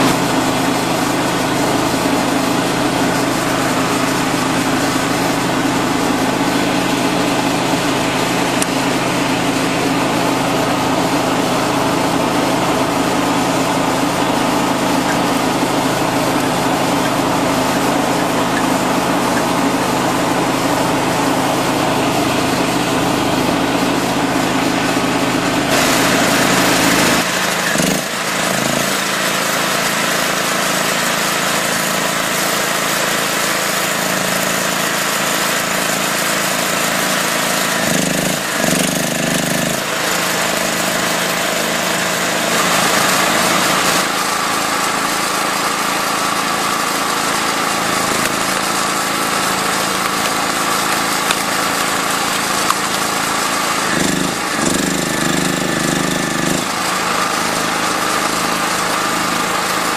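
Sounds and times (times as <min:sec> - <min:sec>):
log splitter motor and pump: 0:00.0 - 0:59.9.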